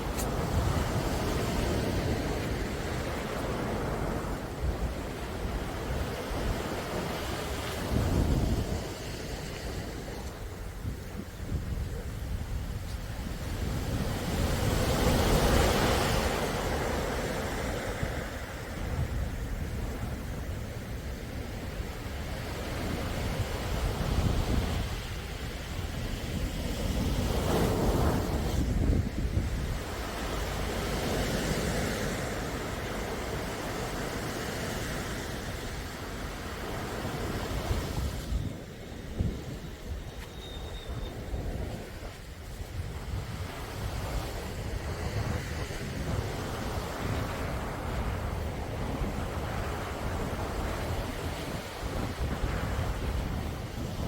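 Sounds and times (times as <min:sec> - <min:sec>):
calm sea waves washing: 0:00.0 - 0:54.0
wind rumbling on microphone: 0:00.0 - 0:54.0.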